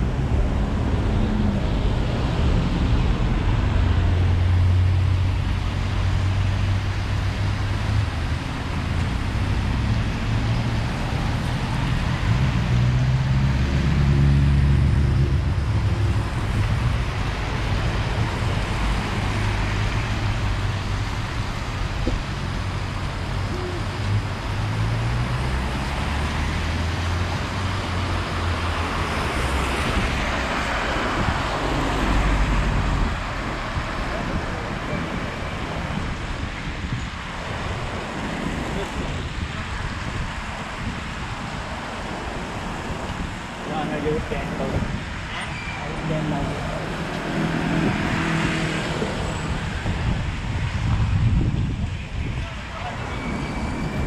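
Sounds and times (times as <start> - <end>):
vehicle engines rumbling: 0.0 - 54.0
tyres hissing on wet road: 0.4 - 54.0
heavy engine passing: 8.0 - 40.9, 41.6 - 54.0.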